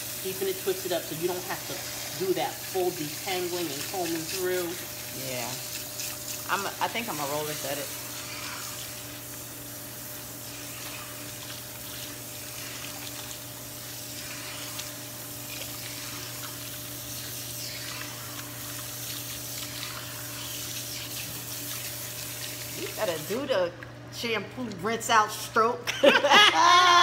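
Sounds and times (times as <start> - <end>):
water running from a tap: 0.0 - 23.5.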